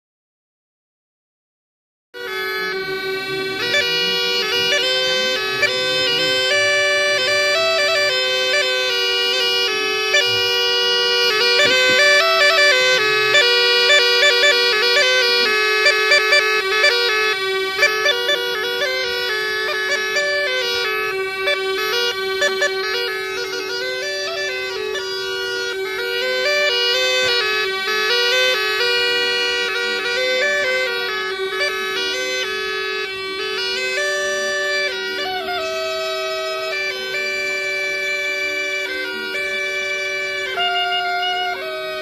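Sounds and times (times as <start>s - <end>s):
bagpipe melody over drone: 2.2s - 42.0s.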